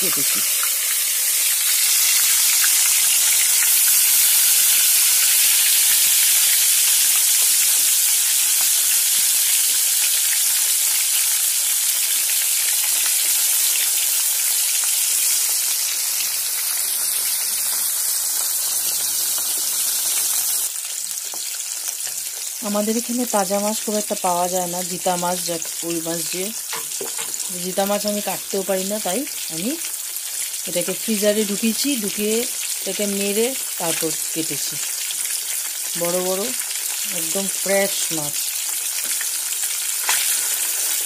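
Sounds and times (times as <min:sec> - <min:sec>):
fish deep-frying in hot oil: 0:00.0 - 0:41.0.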